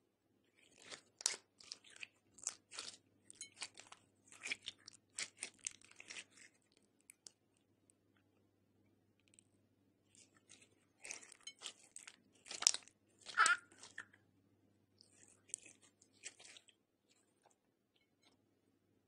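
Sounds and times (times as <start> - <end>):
slime squishing: 0.4 - 8.3, 9.2 - 14.2, 14.9 - 18.3.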